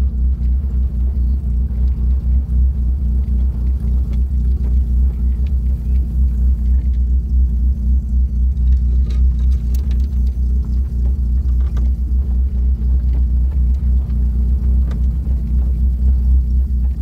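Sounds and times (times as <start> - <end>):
light knocks and rattles: 0.0 - 17.0
vehicle rumbling over rough ground: 0.0 - 17.0.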